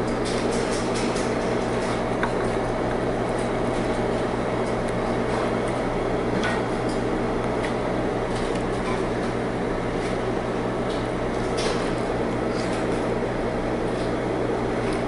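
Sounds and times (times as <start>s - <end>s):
air-handling equipment hum: 0.0s - 15.0s.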